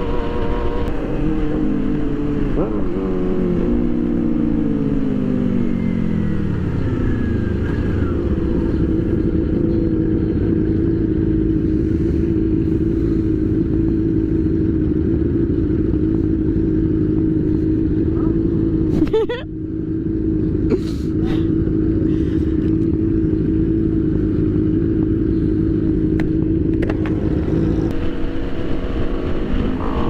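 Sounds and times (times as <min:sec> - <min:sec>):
motorcycle engine: 0:00.0 - 0:30.0
wind and road rumble: 0:00.0 - 0:30.0.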